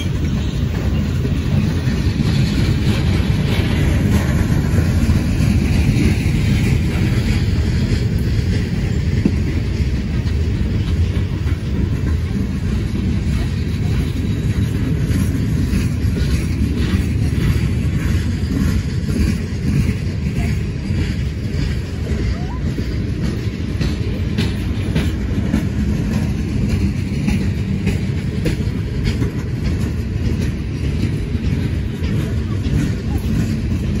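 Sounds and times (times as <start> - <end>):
freight train wheels rumbling: 0.0 - 34.0
wheels clicking over rail joints: 0.0 - 34.0.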